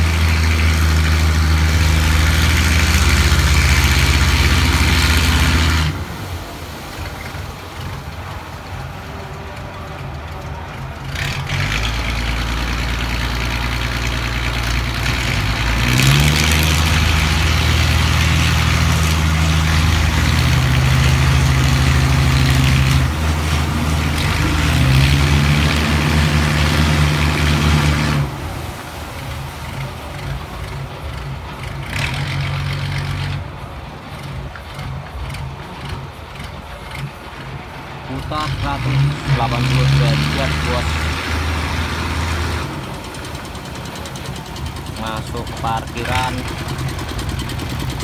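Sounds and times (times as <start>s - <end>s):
boat diesel engine running: 0.0s - 48.0s.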